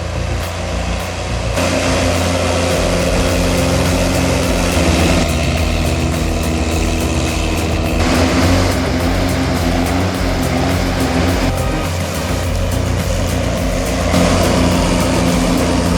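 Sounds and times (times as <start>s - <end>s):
heavy machinery engine running: 0.0s - 15.9s.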